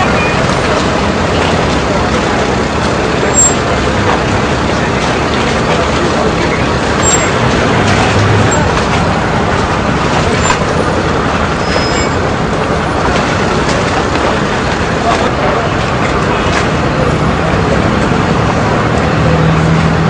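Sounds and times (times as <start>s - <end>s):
crowd chatter: 0.0s - 20.0s
traffic rumble: 0.0s - 20.0s.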